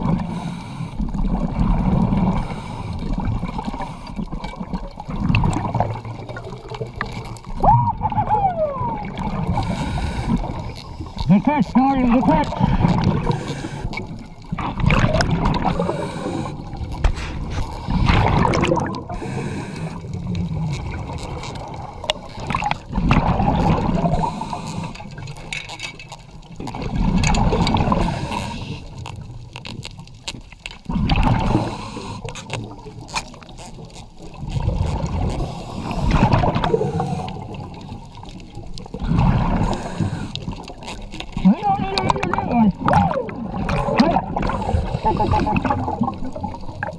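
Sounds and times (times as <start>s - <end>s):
underwater gurgling bubbles: 0.0s - 46.9s.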